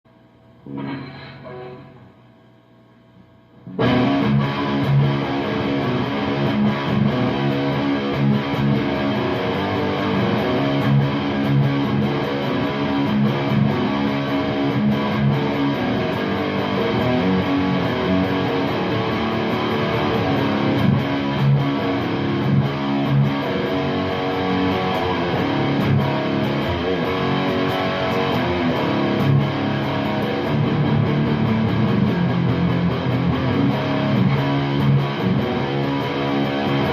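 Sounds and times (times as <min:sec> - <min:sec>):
distorted electric guitar: 0:00.6 - 0:02.3, 0:03.6 - 0:36.9.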